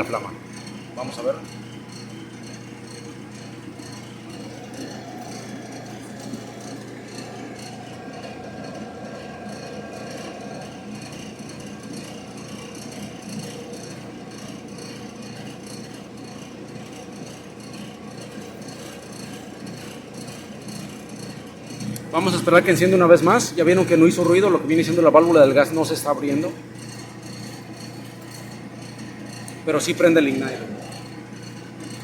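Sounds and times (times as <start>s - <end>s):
gas dryer running: 0.0s - 32.0s.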